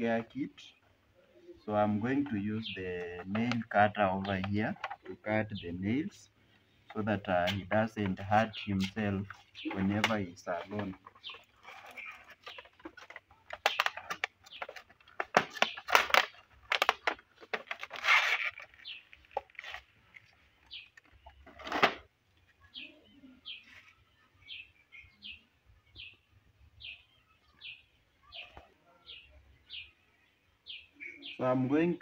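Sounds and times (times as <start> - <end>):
bird chirping: 0.0 - 32.0.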